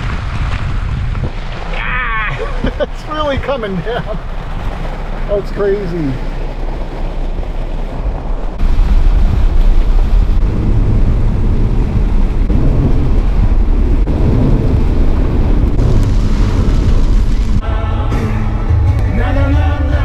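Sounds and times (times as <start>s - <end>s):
heavy rain pounding on vehicle: 0.0s - 17.6s
wind buffeting microphone: 0.0s - 17.6s
steady low rumble: 0.0s - 20.0s.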